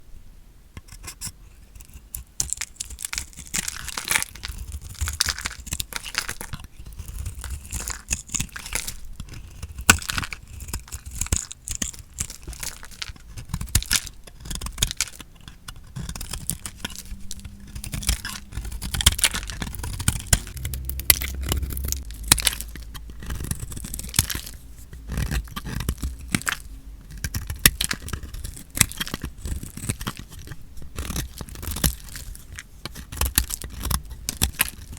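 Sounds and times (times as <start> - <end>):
blade crunching through soap: 1.8 - 20.5, 23.2 - 34.9.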